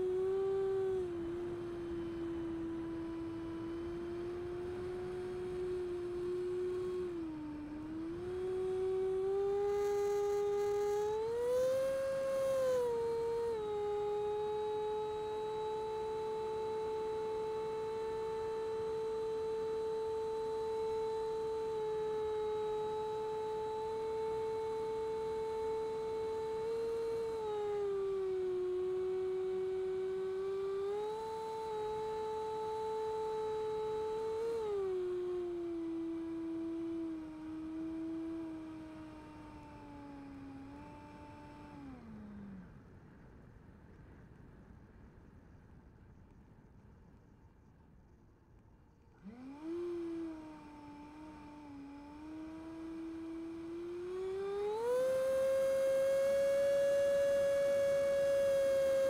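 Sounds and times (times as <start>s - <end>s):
electric ducted fan whining: 0.0s - 45.8s, 48.8s - 59.0s.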